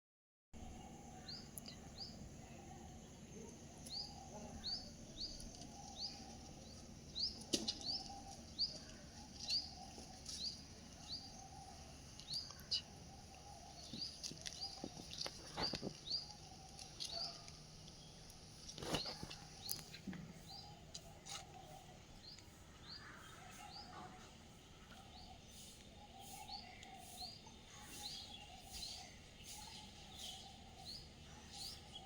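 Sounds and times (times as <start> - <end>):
small bird chirping: 0.6 - 32.0.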